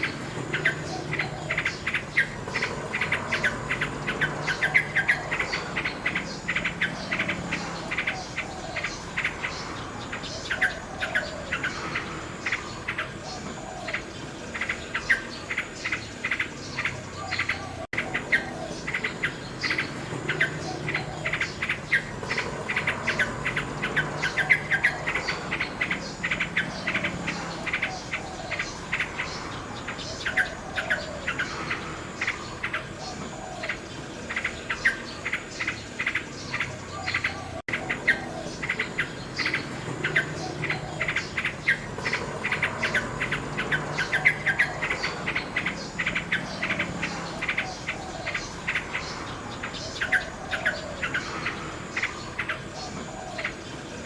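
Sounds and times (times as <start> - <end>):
nightingale singing: 0.0 - 54.0.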